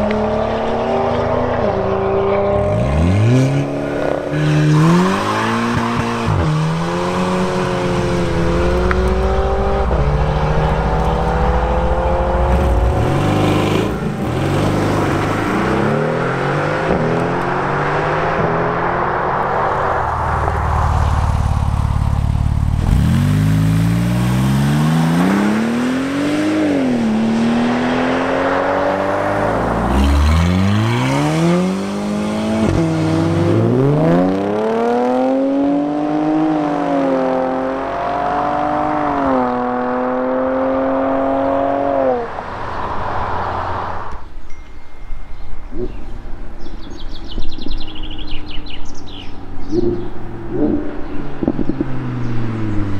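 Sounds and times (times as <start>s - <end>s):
sports car engines accelerating: 0.0s - 44.2s, 46.6s - 52.9s.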